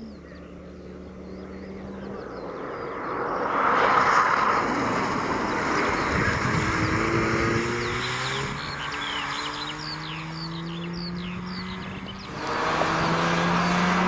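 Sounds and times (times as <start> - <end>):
rotary engine car passing: 0.0 - 14.0.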